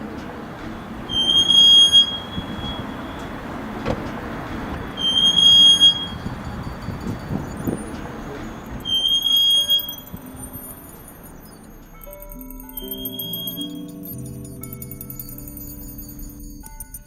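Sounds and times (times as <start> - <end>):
squeaky wheel squealing: 0.0 - 14.2.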